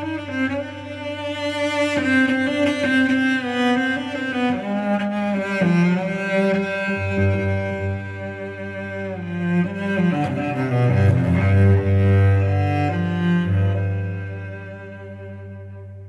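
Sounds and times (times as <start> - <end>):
bowed strings: 0.0 - 16.0.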